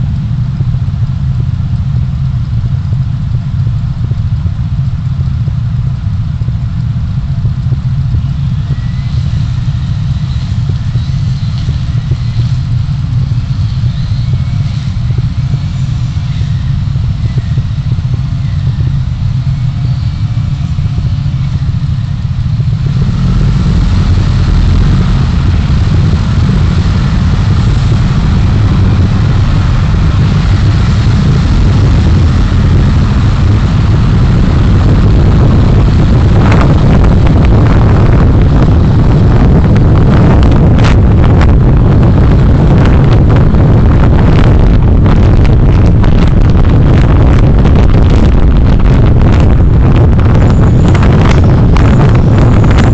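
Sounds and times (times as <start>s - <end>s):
car road and engine rumble: 0.0s - 52.9s.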